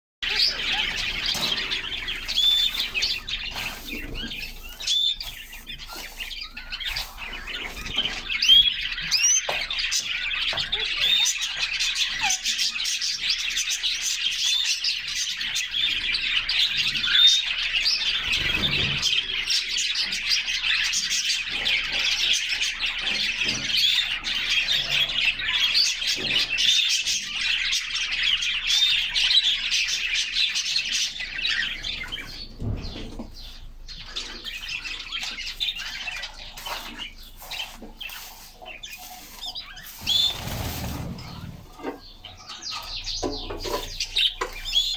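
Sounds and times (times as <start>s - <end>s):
canaries chirping and trilling: 0.2s - 44.9s.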